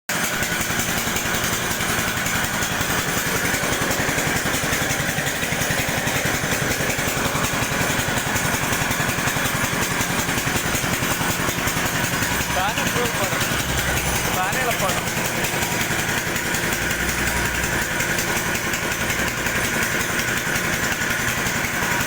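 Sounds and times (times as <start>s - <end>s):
pellet press running: 0.1s - 22.0s.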